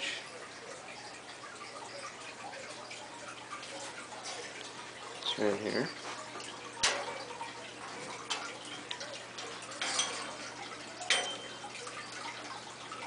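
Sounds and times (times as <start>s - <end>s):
low steady hum: 0.0s - 13.0s
water trickling: 0.0s - 13.0s.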